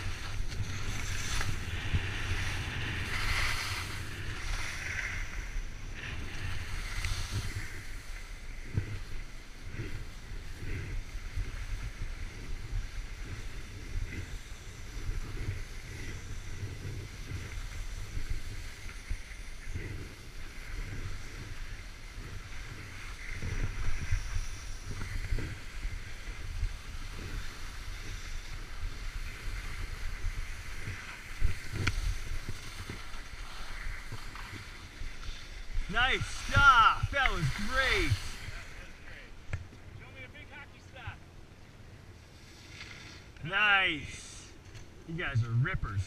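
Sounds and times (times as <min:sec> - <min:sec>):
wind buffeting microphone: 0:00.0 - 0:39.0
skis scraping on packed snow: 0:00.0 - 0:41.2, 0:42.1 - 0:46.0.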